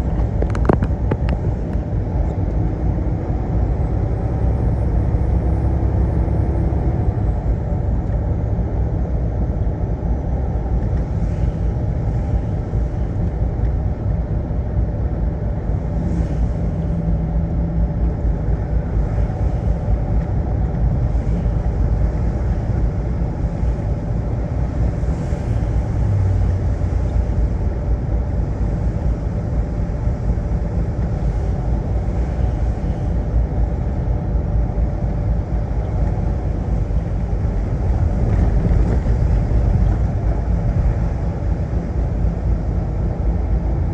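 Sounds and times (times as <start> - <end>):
faint steady hum: 0.0 - 43.9
road noise: 0.0 - 43.9
truck engine rumble: 0.0 - 43.9.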